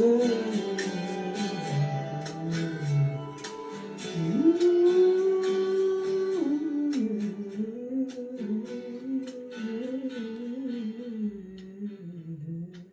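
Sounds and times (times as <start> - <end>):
woman humming a melody: 0.0 - 3.3, 4.1 - 12.9
plucked guitar notes: 0.0 - 12.9.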